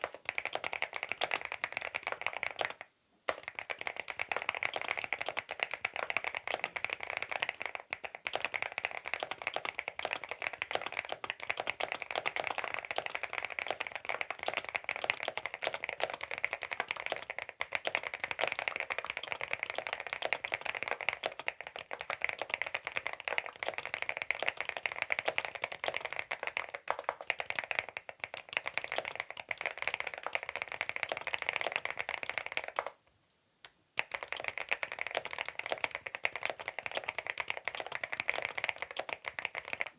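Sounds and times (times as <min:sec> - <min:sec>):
mechanical keyboard typing: 0:00.0 - 0:33.0, 0:34.0 - 0:39.9.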